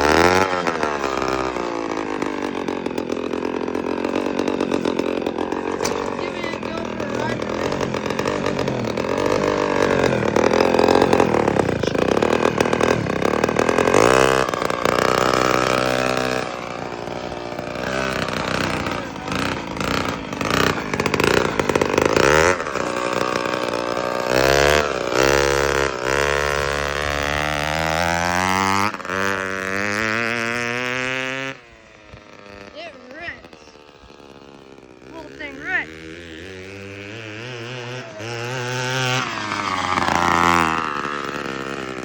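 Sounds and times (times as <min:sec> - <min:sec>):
loud scooter engine revving: 0:00.0 - 0:42.0.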